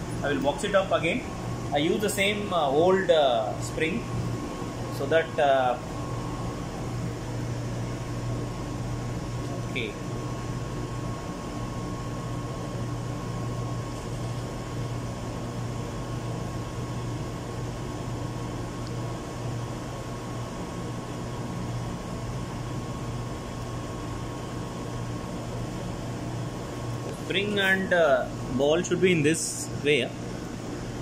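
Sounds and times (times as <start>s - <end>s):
low machinery hum: 0.0s - 31.0s.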